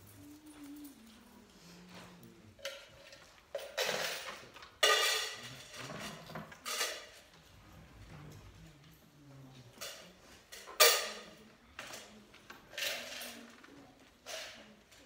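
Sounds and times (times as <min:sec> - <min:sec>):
objects and papers rustling: 0:00.0 - 0:15.0.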